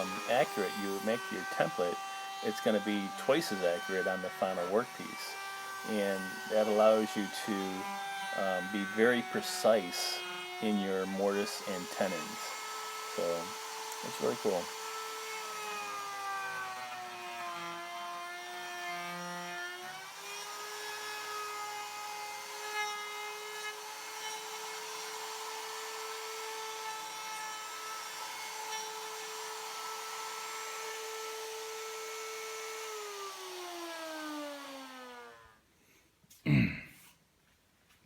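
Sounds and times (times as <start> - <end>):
router motor whining: 0.0 - 35.6.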